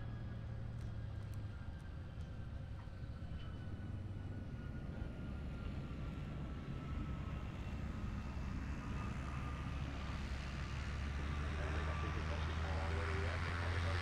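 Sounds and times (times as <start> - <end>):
jet engine rumble and whine: 0.0 - 14.0.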